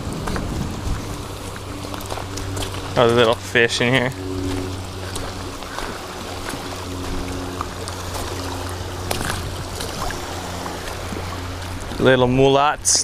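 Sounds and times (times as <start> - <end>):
steady low hum: 0.0 - 13.0
water splashing around feet: 0.0 - 13.0.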